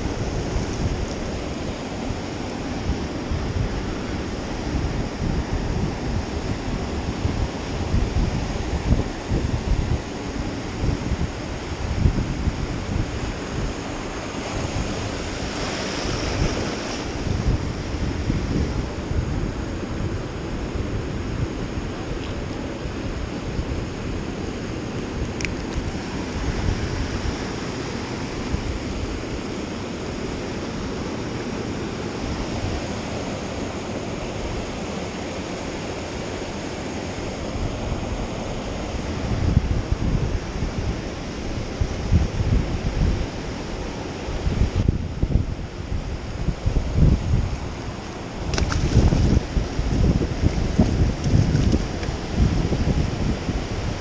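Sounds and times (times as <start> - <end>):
wind buffeting microphone: 0.0 - 30.4, 35.8 - 54.0
ocean surf breaking on rocks: 0.0 - 54.0.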